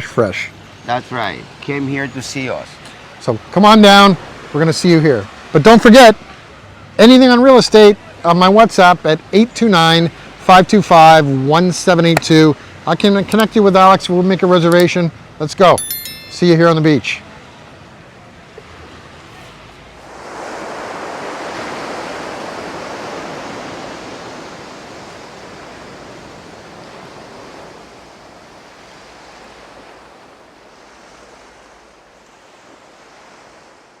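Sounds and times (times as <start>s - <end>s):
waves breaking on beach: 0.0s - 14.5s, 16.0s - 34.0s.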